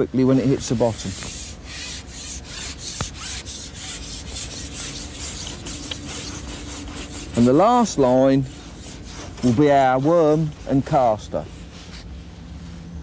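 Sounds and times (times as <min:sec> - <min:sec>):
faint steady hum: 0:00.0 - 0:13.0
scratchy rubbing and rustling: 0:00.3 - 0:12.9.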